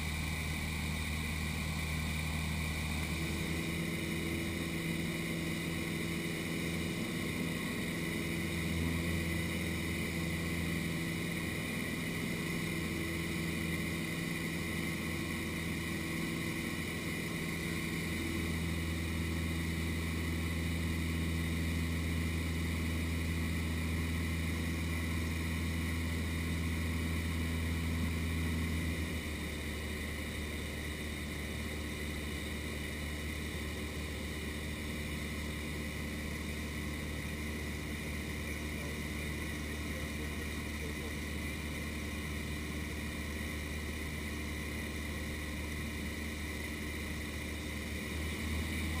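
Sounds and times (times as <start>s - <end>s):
airplane engine and propeller droning: 0.0s - 49.0s.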